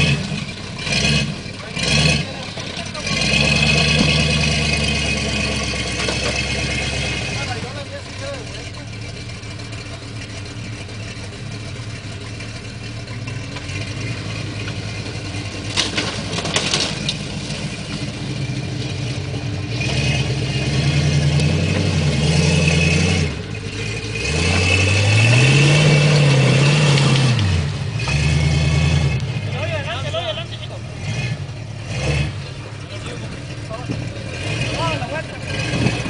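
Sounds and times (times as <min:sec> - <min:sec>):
engine running and revving: 0:00.0 - 0:36.0.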